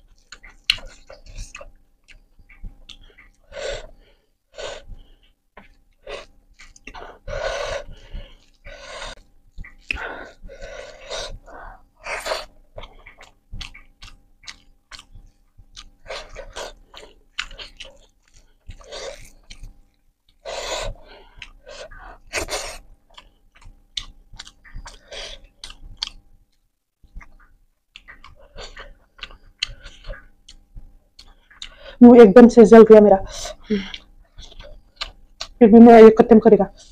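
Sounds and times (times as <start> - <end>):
wet chewing and lip smacks: 0.0 - 3.4, 5.2 - 7.1, 7.9 - 31.9, 33.4 - 35.6.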